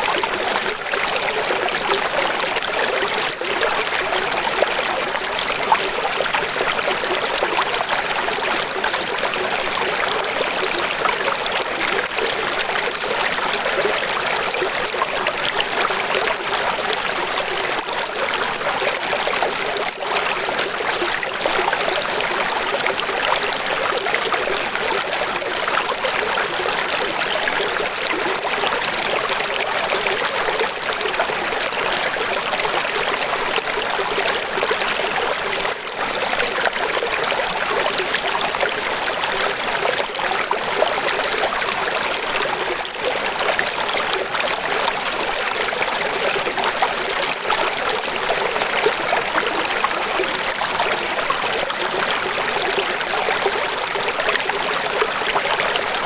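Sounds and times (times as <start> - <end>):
stream running water: 0.0 - 56.0.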